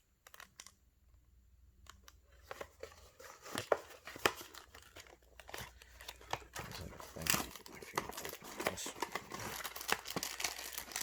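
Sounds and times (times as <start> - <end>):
card pack wrapper crinkling and tearing: 0.0 - 0.8, 1.8 - 11.0.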